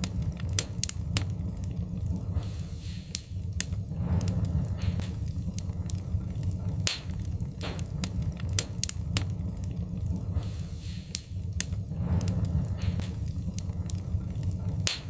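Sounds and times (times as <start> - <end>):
low rumble of fire: 0.0 - 15.0
wood fire crackling: 0.0 - 15.0.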